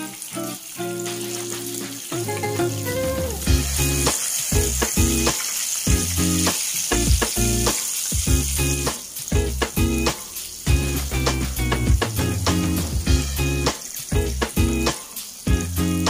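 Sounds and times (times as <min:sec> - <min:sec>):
fish sizzling in hot oil: 0:00.0 - 0:16.0
background music with beat: 0:00.8 - 0:16.0.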